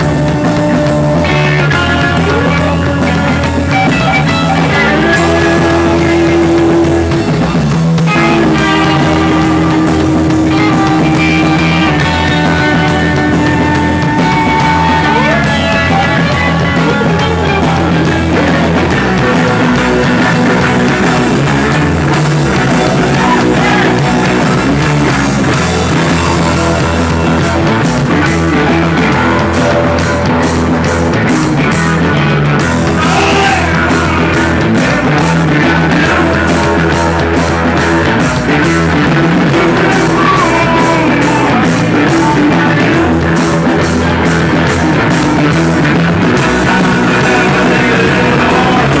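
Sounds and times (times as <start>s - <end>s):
drum kit with cymbal hits: 0.0s - 49.0s
electric guitars: 0.0s - 49.0s.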